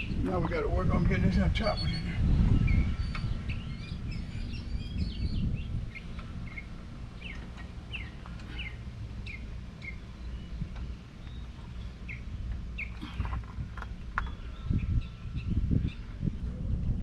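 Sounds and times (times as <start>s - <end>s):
small birds chirping: 0.0s - 16.3s
low rumble: 0.0s - 17.0s.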